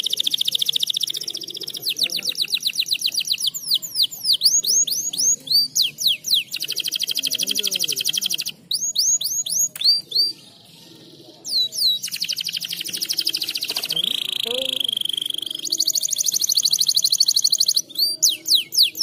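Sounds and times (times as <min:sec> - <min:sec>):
canary singing trills: 0:00.0 - 0:19.0.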